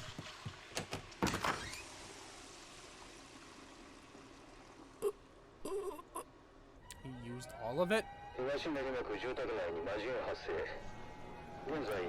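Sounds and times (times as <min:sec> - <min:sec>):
low steady background noise: 0:00.0 - 0:12.0.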